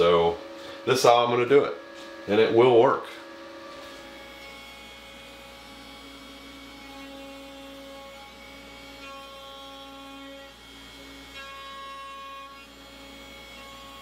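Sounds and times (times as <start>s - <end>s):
cnc router humming and whining: 0.0s - 14.0s.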